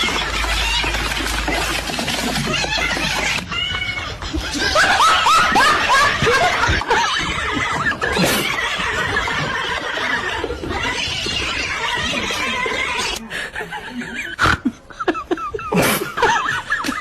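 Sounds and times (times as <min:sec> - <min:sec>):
person giggling: 0:02.0 - 0:10.7, 0:12.0 - 0:17.0.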